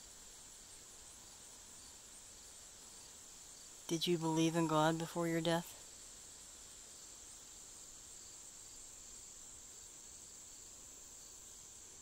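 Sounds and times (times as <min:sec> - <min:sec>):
insects trilling: 0:00.0 - 0:12.0
low outdoor hiss: 0:00.0 - 0:12.0.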